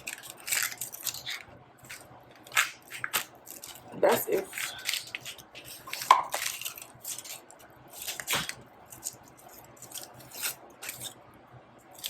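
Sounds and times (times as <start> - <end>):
onion crunching on cutting board: 0.0 - 11.2.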